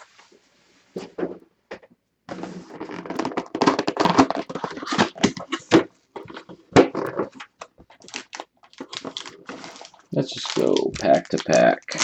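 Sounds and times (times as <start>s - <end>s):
packaging rustling and crinkling: 2.3s - 12.0s.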